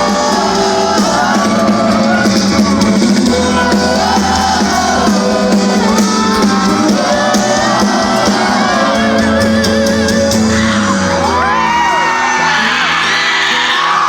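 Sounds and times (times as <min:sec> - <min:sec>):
person singing: 0:00.0 - 0:13.0
audience shouting and whooping: 0:00.0 - 0:14.0
live band playing: 0:00.0 - 0:14.0.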